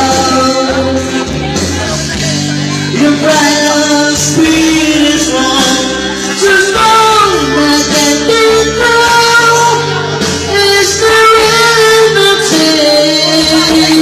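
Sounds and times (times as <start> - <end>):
backing music: 0.0 - 14.0
man singing: 0.0 - 14.0.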